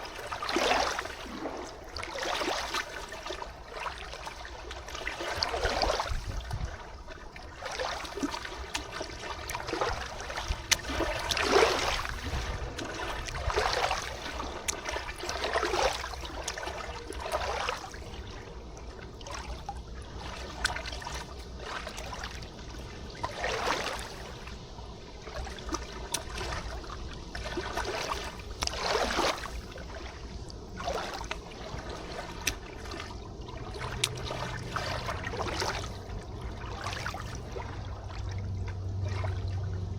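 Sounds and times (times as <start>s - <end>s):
river water trickling and lapping: 0.0s - 39.9s
steady low rumble: 2.8s - 39.9s.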